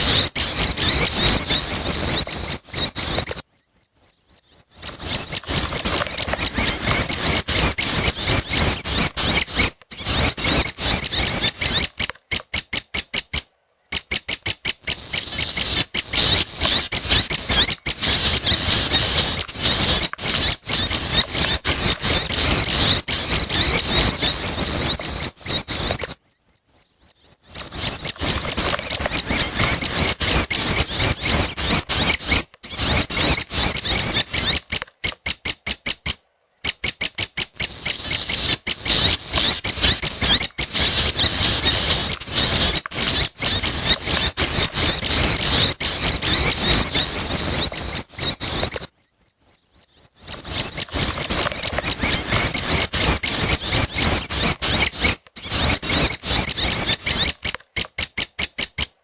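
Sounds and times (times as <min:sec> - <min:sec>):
bird chicks chattering: 0:00.0 - 0:59.0.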